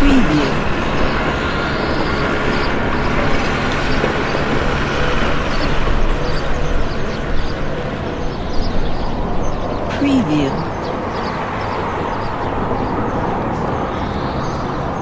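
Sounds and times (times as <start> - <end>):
traffic with engines rumbling: 0.0 - 15.0.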